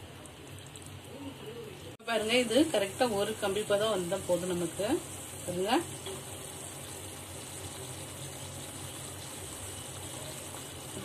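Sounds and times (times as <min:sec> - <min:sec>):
sugar syrup boiling in a pot: 0:00.0 - 0:11.0.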